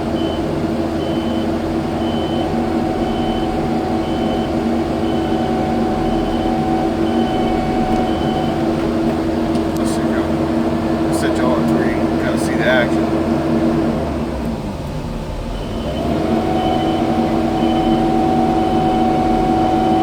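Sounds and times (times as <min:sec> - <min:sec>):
backup alarm beeping: 0:00.0 - 0:12.4, 0:15.5 - 0:20.0
diesel engine running: 0:00.0 - 0:20.0.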